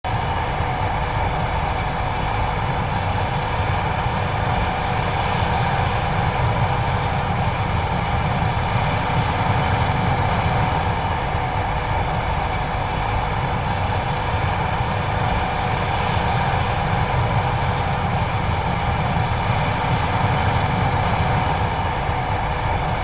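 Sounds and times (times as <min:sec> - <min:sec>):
combine harvester running: 0:00.1 - 0:23.0.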